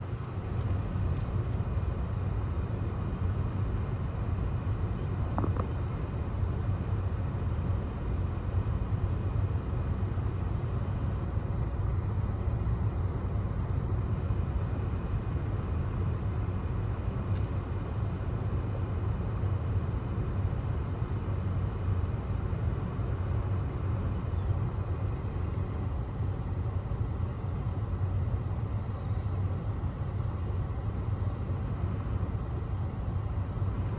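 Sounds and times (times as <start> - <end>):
low outdoor rumble: 0.0 - 33.9.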